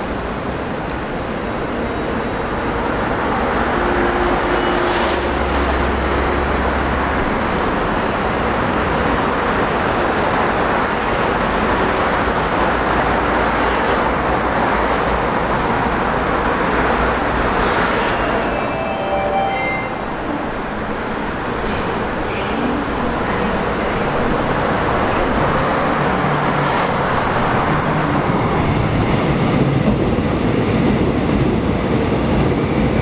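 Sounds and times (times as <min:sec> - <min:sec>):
subway train wheels on rails: 0:00.0 - 0:33.0.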